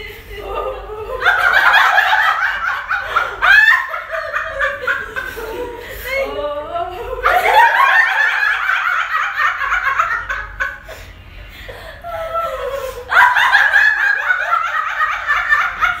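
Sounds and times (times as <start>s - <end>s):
women laughing: 0.0s - 16.0s.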